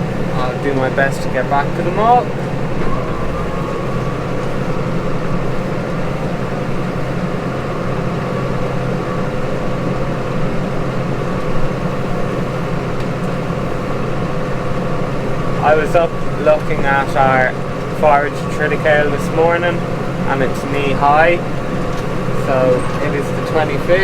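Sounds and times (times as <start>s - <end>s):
faint steady whine: 0.0s - 24.0s
tractor engine droning: 0.0s - 24.0s.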